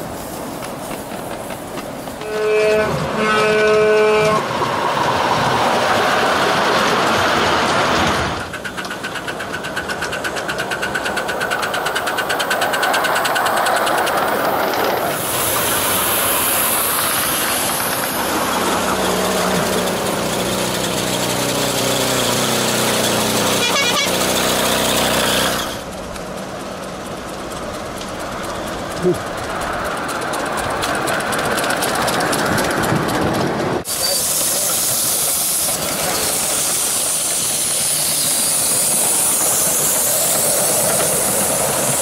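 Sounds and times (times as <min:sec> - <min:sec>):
small locomotive engine running: 0:00.0 - 0:42.0.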